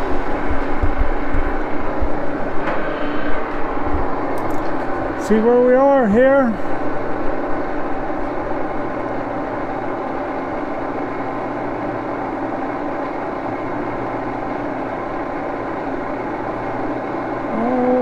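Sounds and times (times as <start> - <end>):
machine shop machinery humming: 0.0 - 18.0.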